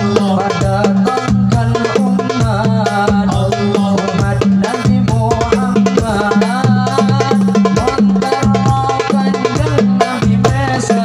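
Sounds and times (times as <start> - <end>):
hand drums playing fast rolls: 0.0 - 11.0.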